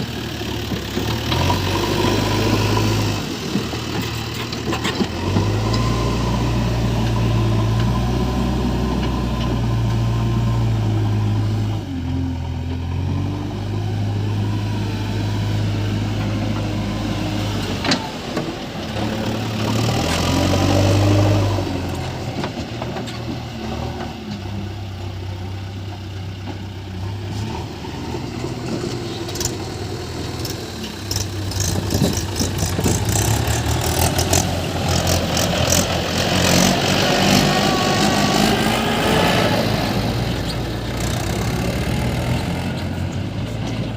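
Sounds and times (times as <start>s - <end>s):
diesel engines running: 0.0s - 43.9s.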